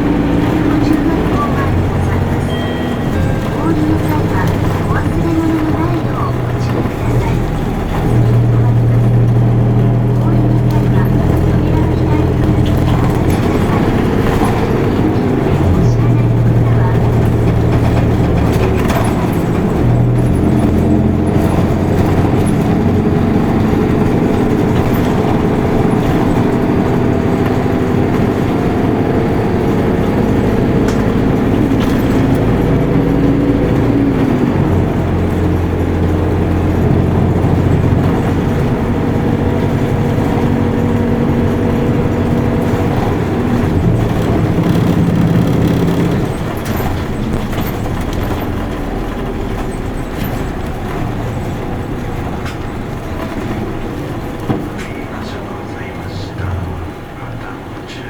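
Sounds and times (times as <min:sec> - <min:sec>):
bus diesel engine running: 0:00.0 - 0:58.0
tyre and road noise: 0:00.0 - 0:58.0.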